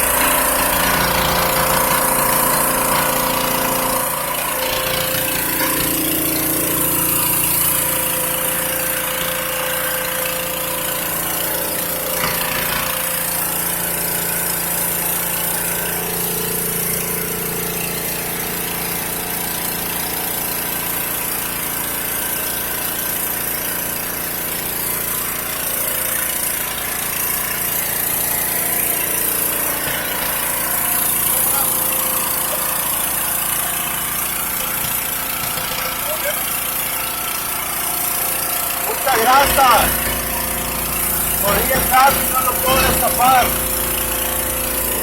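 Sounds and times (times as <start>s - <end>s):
drain cleaning machine engine: 0.0s - 45.0s.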